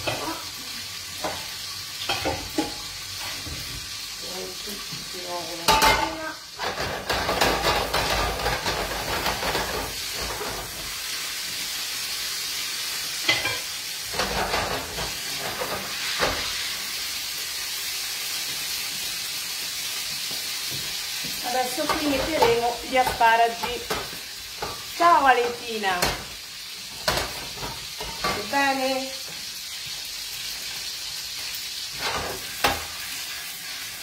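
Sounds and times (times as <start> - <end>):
food sizzling in oil: 0.0 - 34.0.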